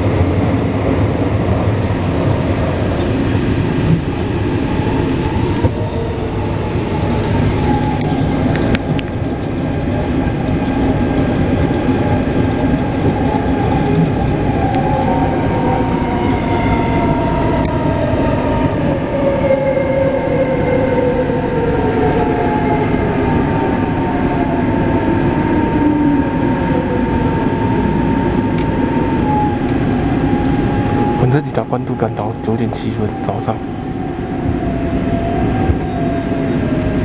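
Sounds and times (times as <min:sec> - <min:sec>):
wheels rumbling on rail: 0:00.0 - 0:37.0.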